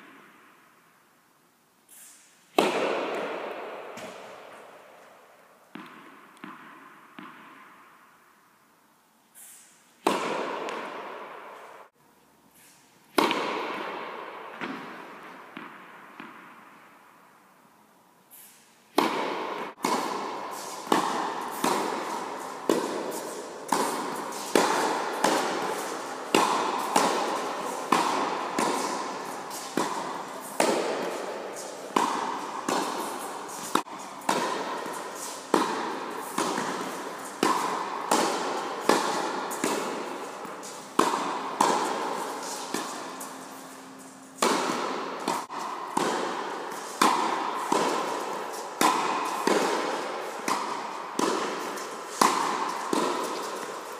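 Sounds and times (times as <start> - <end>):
racket hitting tennis balls: 0.0 - 0.6, 1.9 - 8.4, 9.3 - 17.6, 18.3 - 53.9.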